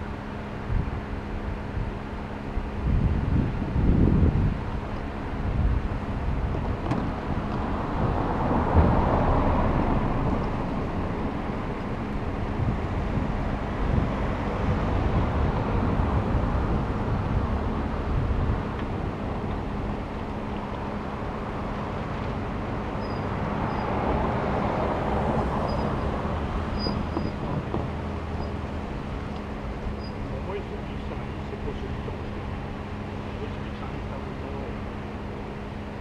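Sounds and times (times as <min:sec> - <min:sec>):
vehicles crossing railway tracks: 0:04.6 - 0:36.0.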